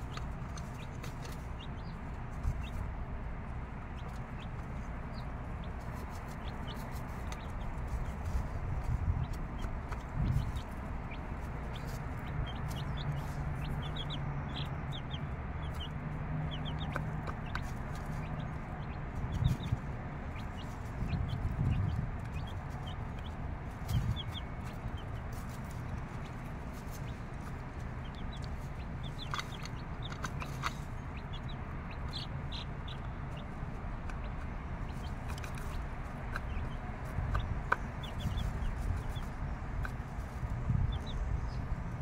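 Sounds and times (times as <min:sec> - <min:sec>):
hen clucking: 0:00.0 - 0:02.9, 0:03.6 - 0:41.3
chicks peeping: 0:00.0 - 0:42.0.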